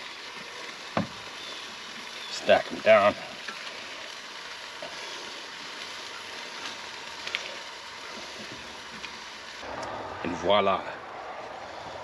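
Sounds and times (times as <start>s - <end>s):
bacon sizzling in a frying pan: 0.0s - 9.7s.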